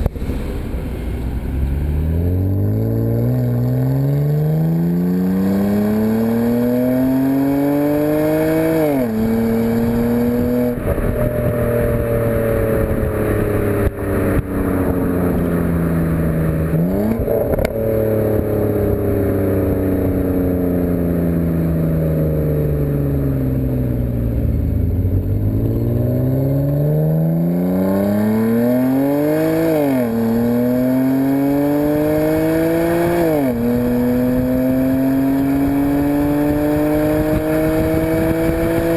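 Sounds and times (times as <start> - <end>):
car engine accelerating and upshifting: 1.3 - 38.9.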